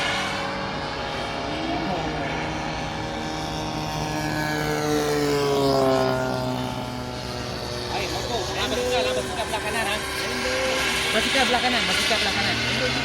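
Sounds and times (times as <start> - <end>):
model jet turbine whine: 0.0 - 13.0.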